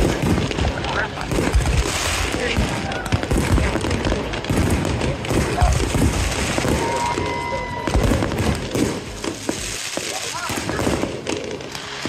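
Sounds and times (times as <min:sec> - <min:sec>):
crowd voices: 0:00.0 - 0:12.0
fireworks booming and crackling: 0:00.0 - 0:12.0.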